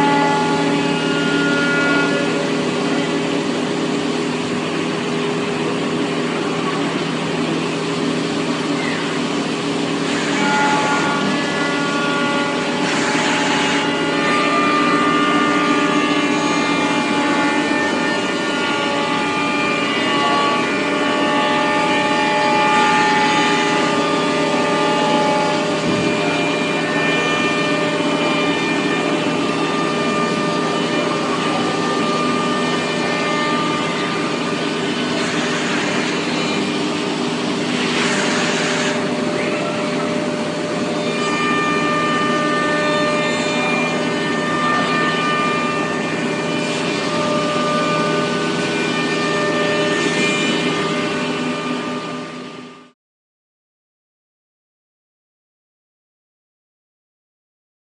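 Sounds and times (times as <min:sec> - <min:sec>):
machine hum: 0:00.0 - 0:52.8
high machine whining: 0:00.0 - 0:52.9.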